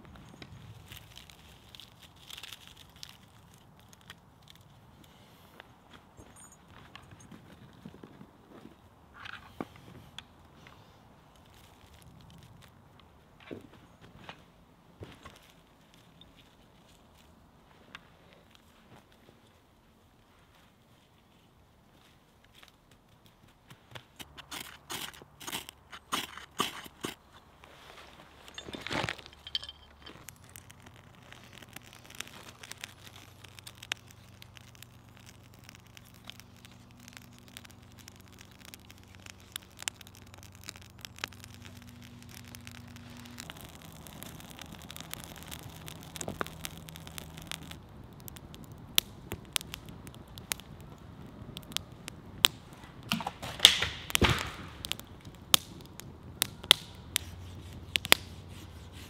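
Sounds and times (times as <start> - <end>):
campfire crackling and popping: 0.0 - 21.0, 21.8 - 59.0.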